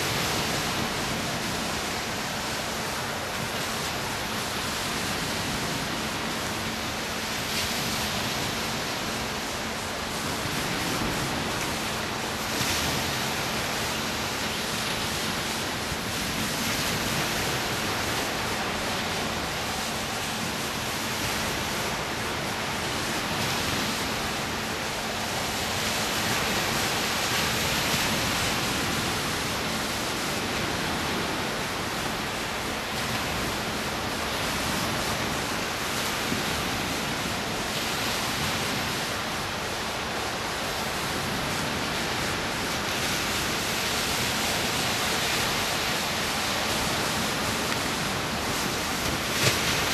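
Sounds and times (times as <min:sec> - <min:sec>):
gentle surf breaking: 0:09.8 - 0:49.9.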